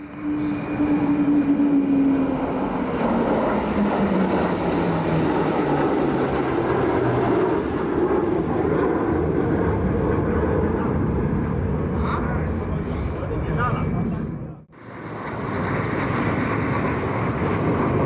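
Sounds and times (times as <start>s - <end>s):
fighter jet flying past: 0.0s - 18.0s.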